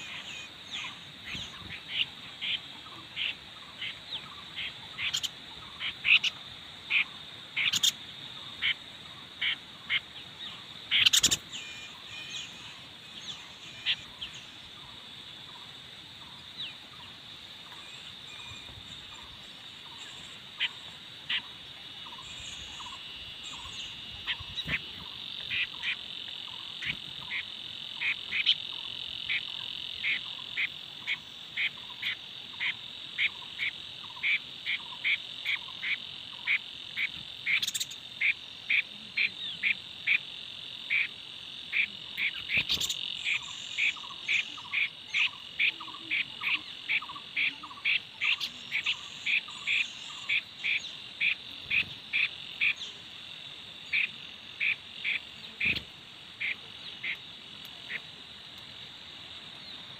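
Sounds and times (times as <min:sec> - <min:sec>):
high-pitched insect buzz: 0:00.0 - 0:15.6, 0:17.6 - 0:58.8.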